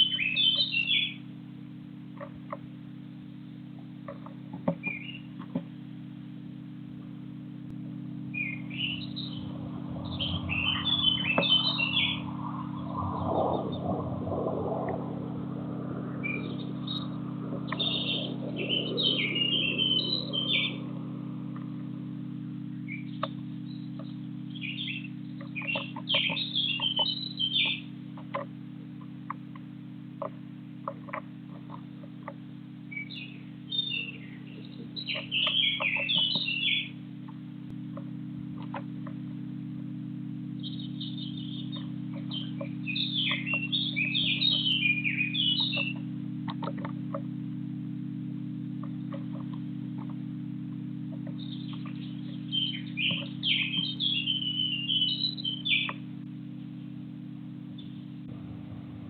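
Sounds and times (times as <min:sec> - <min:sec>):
small birds chirping: 0:00.0 - 0:01.3, 0:02.0 - 0:39.6, 0:40.4 - 0:47.6, 0:48.3 - 0:57.0, 0:57.6 - 0:59.0
steady low hum: 0:00.0 - 0:59.0.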